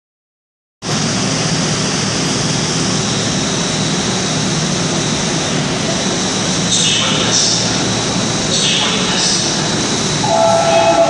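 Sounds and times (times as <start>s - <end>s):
train equipment drone and hiss: 0.8s - 11.0s.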